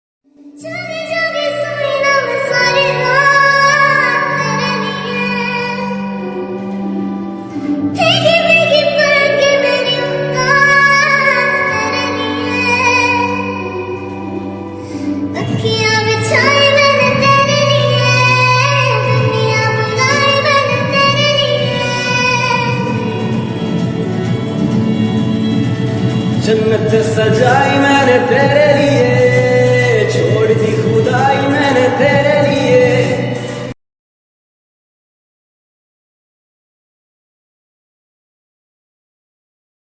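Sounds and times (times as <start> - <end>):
high sung melody: 0.3 - 33.8.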